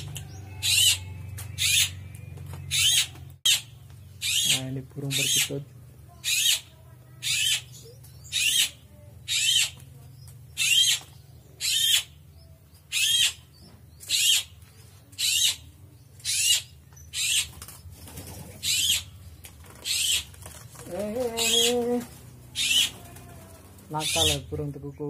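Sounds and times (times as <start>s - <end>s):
bird calling: 0.0s - 9.9s, 10.5s - 14.6s, 18.3s - 24.5s.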